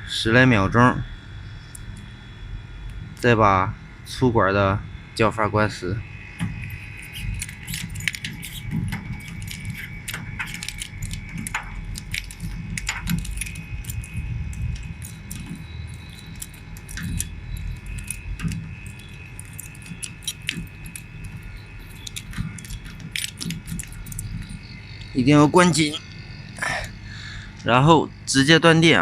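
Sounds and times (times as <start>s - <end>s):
compressor humming: 0.0s - 29.0s.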